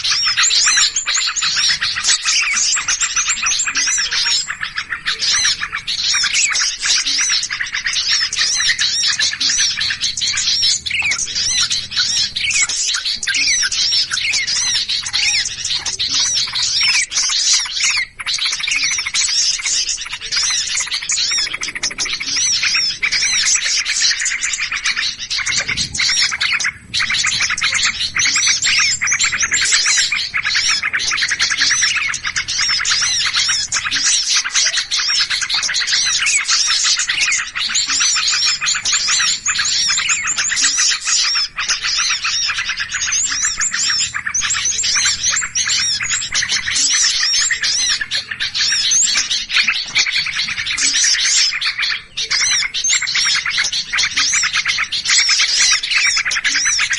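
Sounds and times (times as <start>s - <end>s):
songbirds chirping in chorus: 0.0s - 56.9s.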